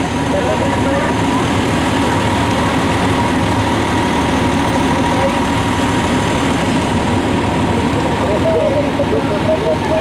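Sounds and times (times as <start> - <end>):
diesel engine running: 0.0 - 10.0
thin steady whine: 0.0 - 10.0.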